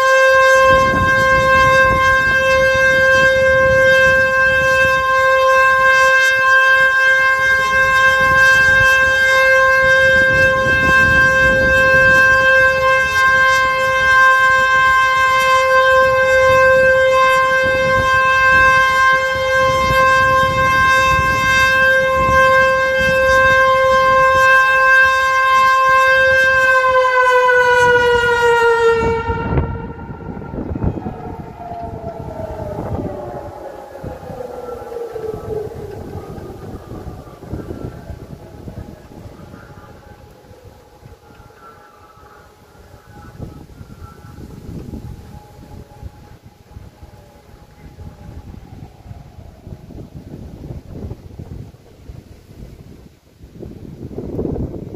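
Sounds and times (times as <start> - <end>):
siren steady tone: 0.0 - 54.9.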